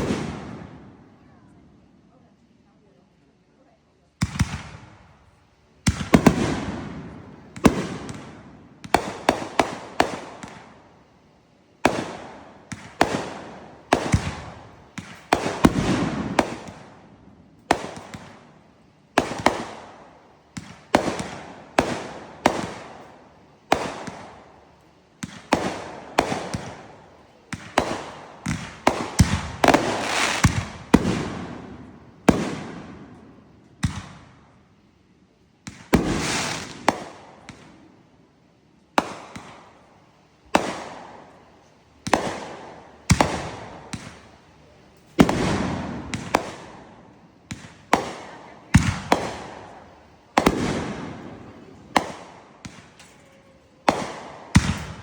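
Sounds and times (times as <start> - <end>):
fireworks banging: 0.0 - 0.8, 5.8 - 10.9, 11.7 - 34.6, 35.6 - 37.8, 38.9 - 55.0.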